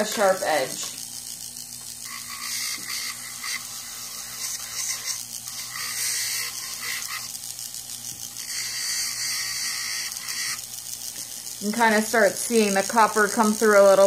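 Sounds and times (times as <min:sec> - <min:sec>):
rotary tool motor hum: 0:00.0 - 0:14.0
abrasive wheel grinding metal: 0:01.7 - 0:14.0.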